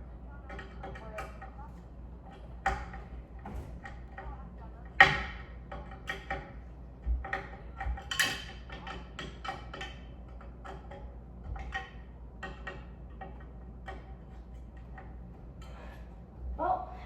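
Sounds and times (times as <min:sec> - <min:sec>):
fan parts clicking and knocking: 0:00.0 - 0:16.6
low steady hum: 0:00.0 - 0:17.0.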